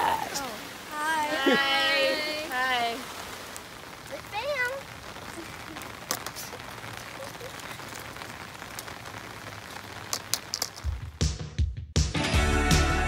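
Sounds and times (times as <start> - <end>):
rain on brick paving: 0.0 - 11.8.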